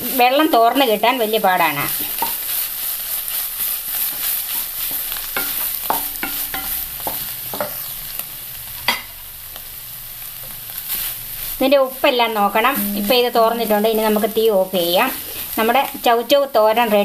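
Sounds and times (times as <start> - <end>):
wooden spatula scraping a wok: 0.0 - 9.1, 10.2 - 17.0
food sizzling: 0.0 - 17.0.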